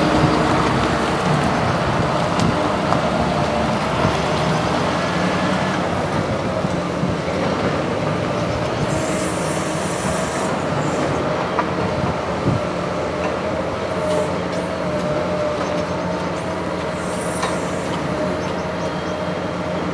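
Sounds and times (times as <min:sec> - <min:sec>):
excavator engine drone: 0:00.0 - 0:19.9.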